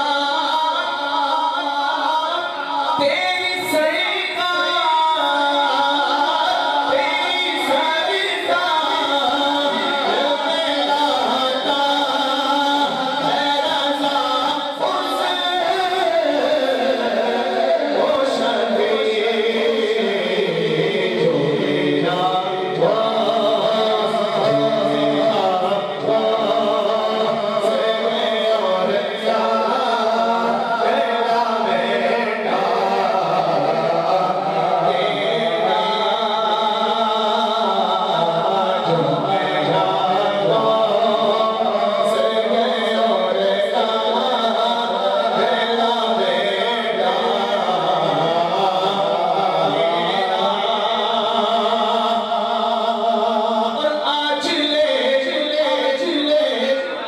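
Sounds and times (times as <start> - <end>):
man chanting unaccompanied: 0.0 - 57.0.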